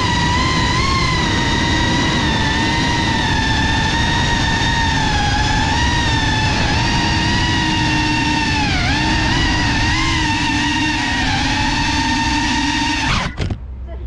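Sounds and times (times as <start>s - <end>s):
drone propellers whining: 0.0s - 13.6s.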